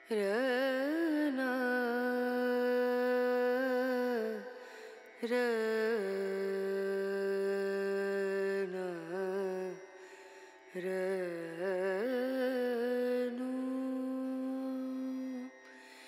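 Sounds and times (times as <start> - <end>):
person singing chant-like melody: 0.0 - 10.1, 10.7 - 16.0.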